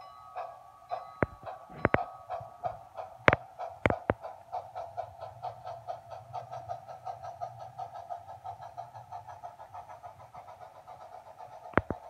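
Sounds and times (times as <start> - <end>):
model train wheels clicking: 0.0 - 12.0.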